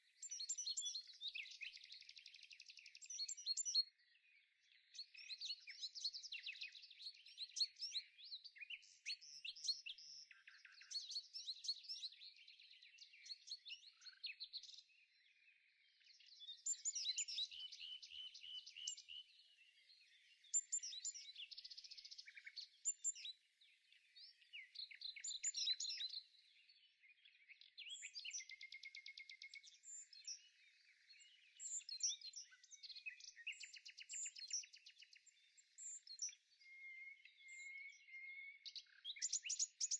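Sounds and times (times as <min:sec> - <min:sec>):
small songbirds chirping and trilling: 0:00.0 - 0:39.9.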